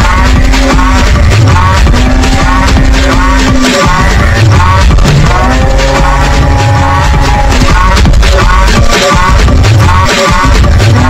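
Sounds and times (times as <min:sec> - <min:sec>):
loud dance music: 0:00.0 - 0:11.0.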